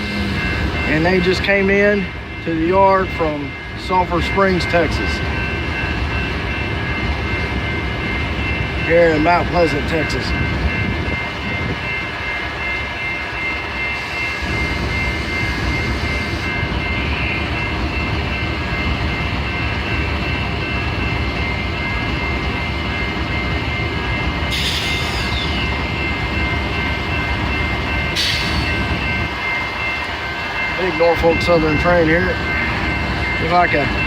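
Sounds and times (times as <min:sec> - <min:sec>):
diesel locomotive rumble: 0:00.0 - 0:34.0.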